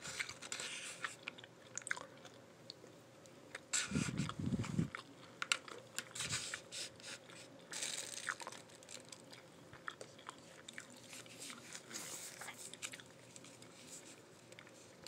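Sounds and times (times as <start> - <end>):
person chewing crunchy food: 0.0 - 2.9, 3.5 - 15.0.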